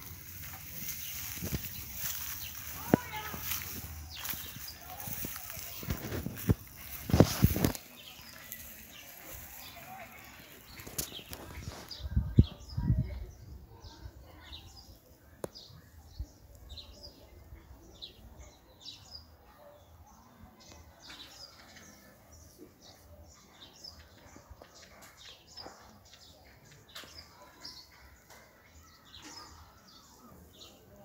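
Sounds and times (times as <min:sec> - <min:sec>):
faint birds chirping: 0:00.0 - 0:31.0.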